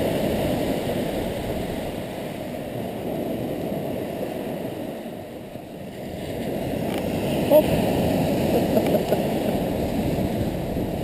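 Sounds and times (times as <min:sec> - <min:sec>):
surf breaking on sandy beach: 0:00.0 - 0:11.0.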